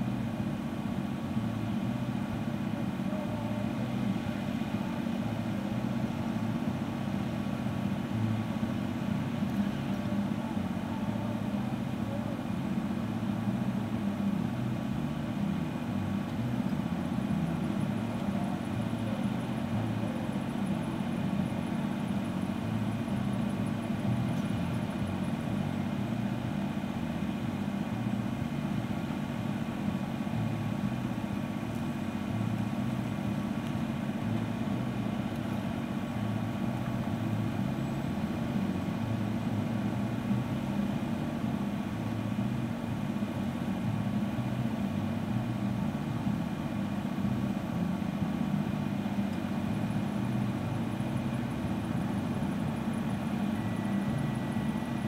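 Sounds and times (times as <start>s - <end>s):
diesel truck engines rumbling: 0.0s - 55.0s.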